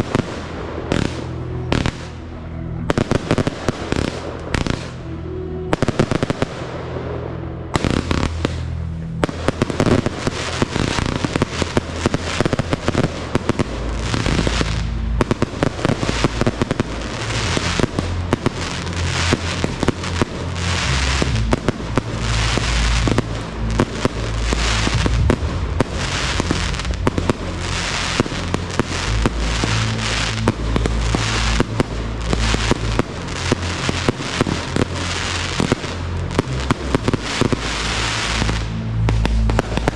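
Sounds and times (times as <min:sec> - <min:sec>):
fireworks bangs and crackling: 0:00.0 - 0:39.9
music: 0:00.0 - 0:39.9.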